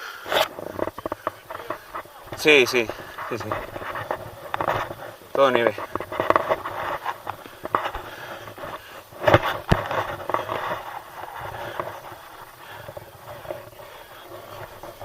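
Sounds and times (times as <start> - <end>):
small irregular clicks: 0.0 - 15.0
crampon steps crunching on snow: 0.3 - 15.0.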